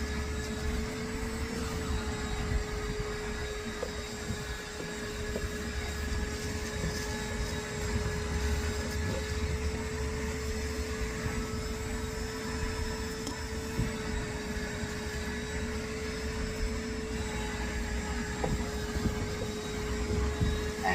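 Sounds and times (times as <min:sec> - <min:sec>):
vacuum cleaner motor whine: 0:00.0 - 0:20.9.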